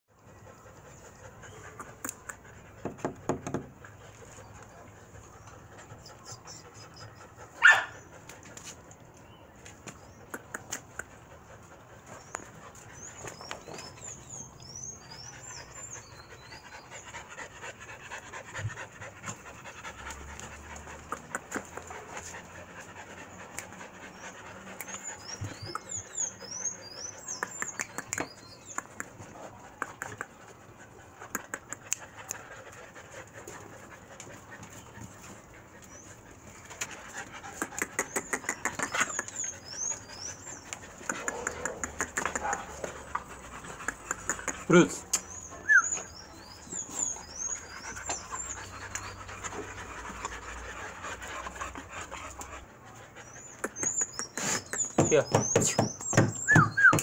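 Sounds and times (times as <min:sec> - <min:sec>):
puppies panting: 0:00.1 - 0:57.0.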